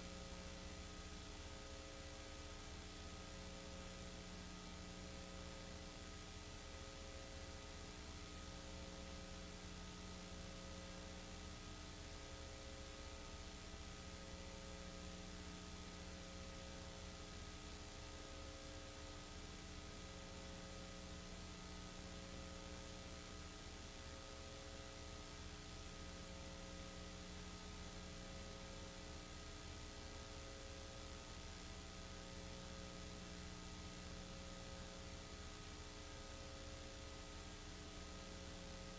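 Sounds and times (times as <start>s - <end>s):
electrical hum and hiss: 0.0s - 38.9s.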